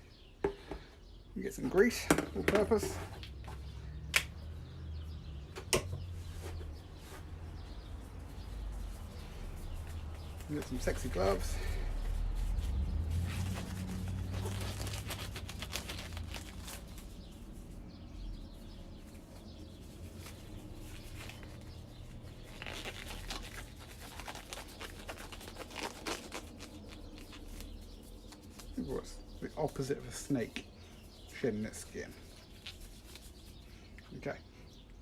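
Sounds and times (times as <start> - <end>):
gloves rubbery rustling: 0.1 - 35.0.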